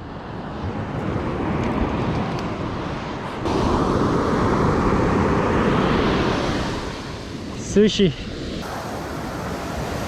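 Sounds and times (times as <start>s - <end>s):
surf washing on beach: 0.0s - 10.0s.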